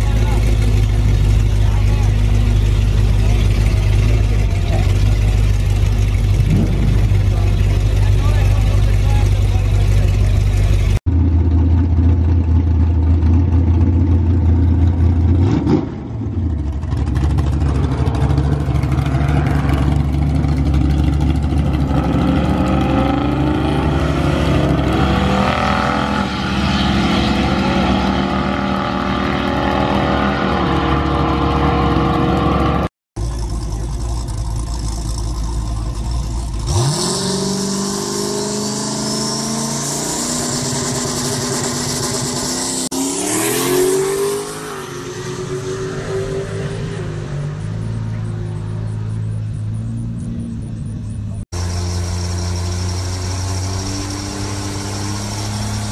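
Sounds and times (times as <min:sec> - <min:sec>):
vehicle engines accelerating: 0:00.0 - 0:55.9.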